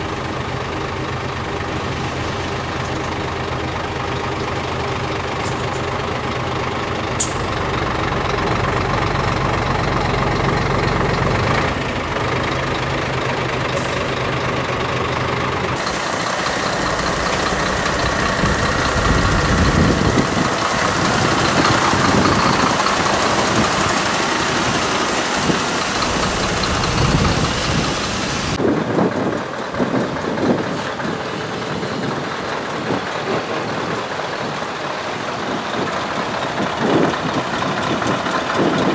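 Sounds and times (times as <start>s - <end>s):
heavy truck engine: 0.0s - 38.9s
truck engine idling: 0.0s - 38.9s
truck running at low speed: 0.0s - 38.9s.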